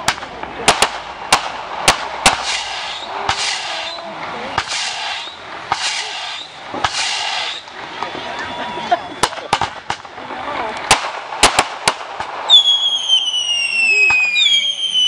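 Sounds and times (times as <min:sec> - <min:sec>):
fireworks bursting: 0:00.0 - 0:15.0
fireworks hissing: 0:01.8 - 0:15.0.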